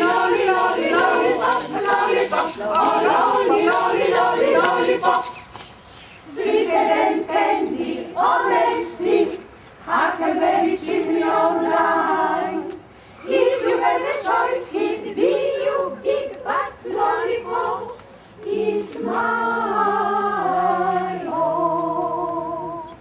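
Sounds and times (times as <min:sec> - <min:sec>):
choir singing a cappella: 0:00.0 - 0:05.4, 0:06.2 - 0:23.0.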